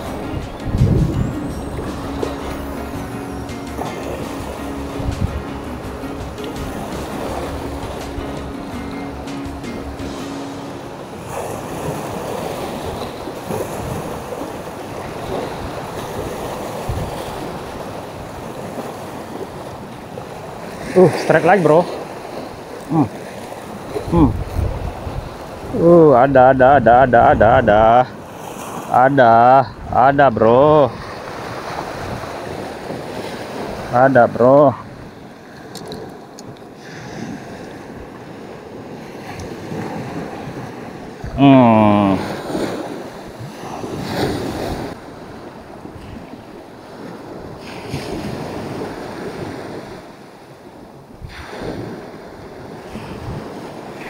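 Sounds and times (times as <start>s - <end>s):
wind buffeting microphone: 0.0s - 28.8s, 29.6s - 54.0s
sea waves washing on shore: 0.0s - 54.0s.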